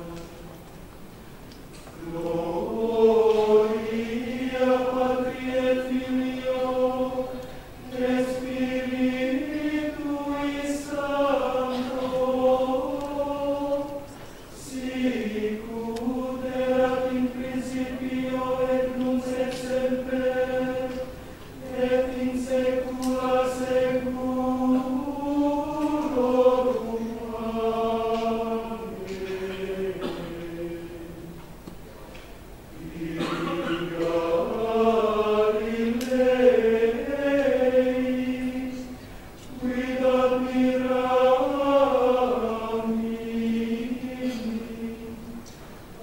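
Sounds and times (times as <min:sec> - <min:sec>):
men's choir chanting in unison: 0:00.0 - 0:00.5, 0:02.0 - 0:31.4, 0:32.7 - 0:45.4.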